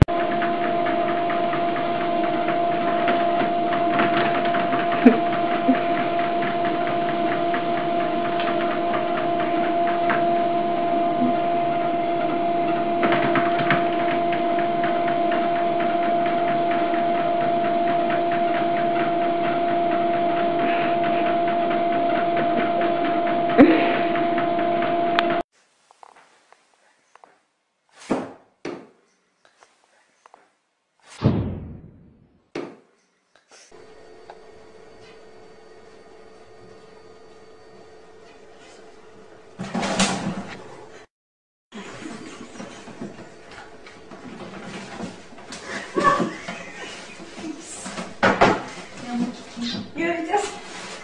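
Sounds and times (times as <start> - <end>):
treadmill motor whine: 0.0 - 25.4, 33.7 - 41.1, 41.7 - 51.0.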